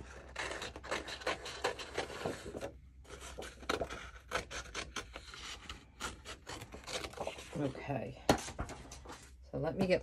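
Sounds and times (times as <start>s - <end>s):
paper rustling and crackling: 0.0s - 9.3s.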